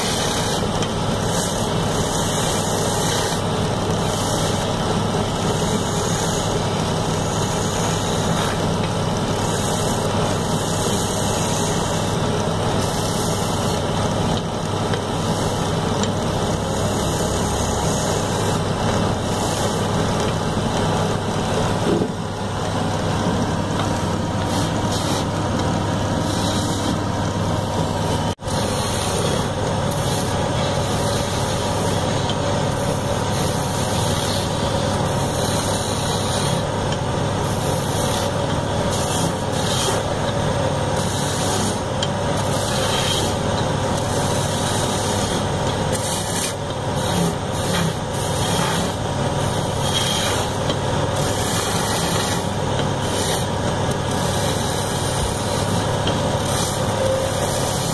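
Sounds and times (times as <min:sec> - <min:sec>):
chisel scraping spinning wood: 0:00.0 - 0:57.9
wood lathe motor humming: 0:00.0 - 0:57.9.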